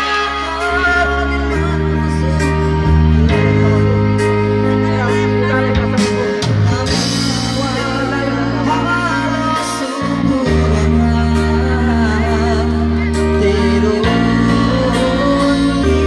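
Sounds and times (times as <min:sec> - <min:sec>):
held bass chords: 0:00.0 - 0:16.0
person singing: 0:00.0 - 0:16.0.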